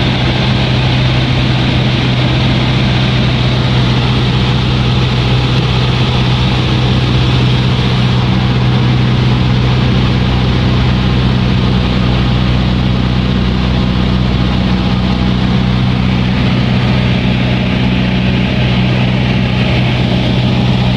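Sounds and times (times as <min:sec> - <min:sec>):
propeller aircraft engine drone: 0:00.0 - 0:20.9.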